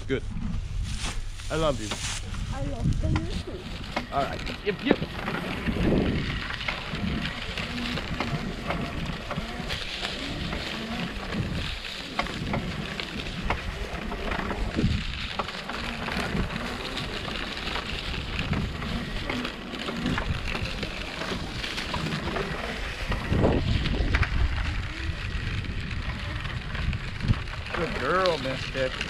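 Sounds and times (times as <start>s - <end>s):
board wheels rolling over dirt: 0.0s - 29.0s
wind buffeting microphone: 0.0s - 29.0s.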